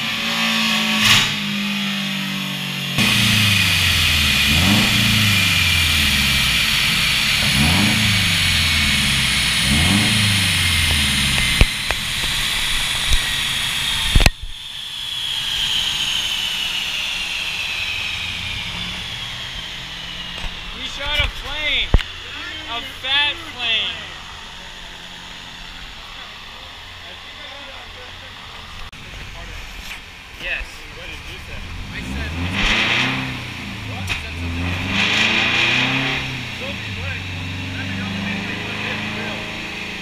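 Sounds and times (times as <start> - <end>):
sharp exhaust bangs: 0.0 - 14.6, 15.6 - 40.0
car engine revving: 0.0 - 40.0
high turbo whine: 0.0 - 40.0.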